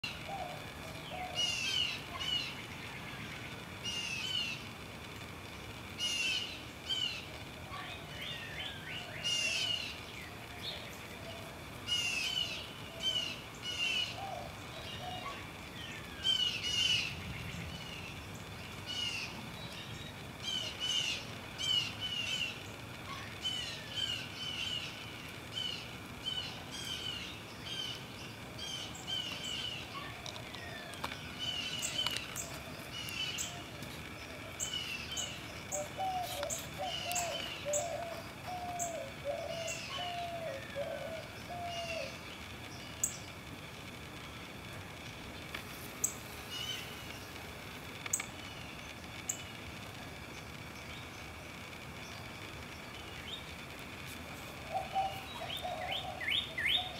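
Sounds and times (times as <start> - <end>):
songbirds chirping: 0.0 - 56.9.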